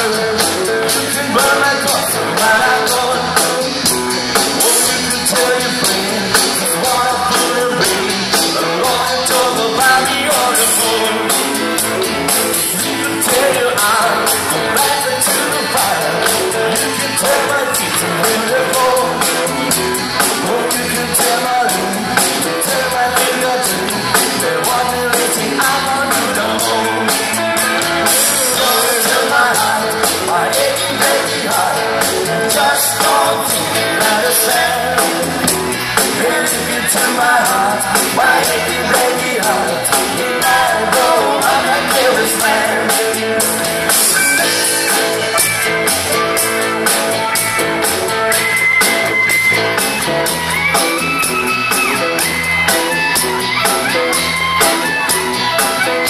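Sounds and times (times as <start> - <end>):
person singing: 0.0 - 11.9, 12.5 - 47.4
live band music: 0.0 - 56.0
steady drum beat: 0.0 - 56.0.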